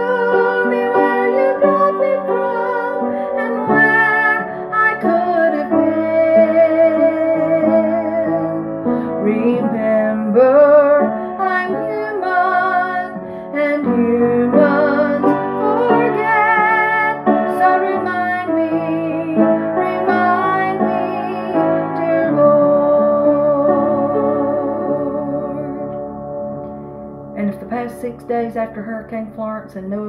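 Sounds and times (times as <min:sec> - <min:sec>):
woman singing gospel with vibrato: 0:00.0 - 0:08.6, 0:09.2 - 0:25.8
piano accompaniment: 0:00.0 - 0:30.0.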